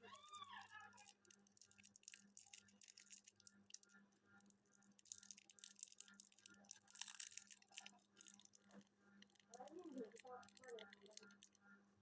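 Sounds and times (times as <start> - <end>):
faint crackling and rustling: 0.0 - 12.0.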